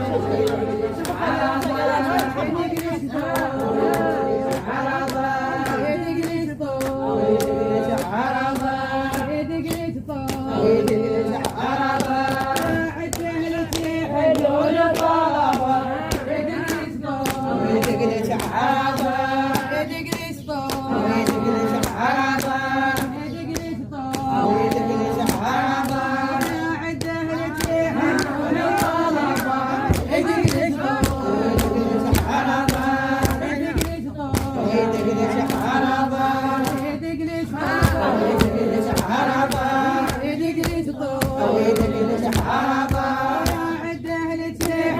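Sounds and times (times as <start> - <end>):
choir vocals: 0.0 - 44.9
percussion beat: 0.0 - 44.9.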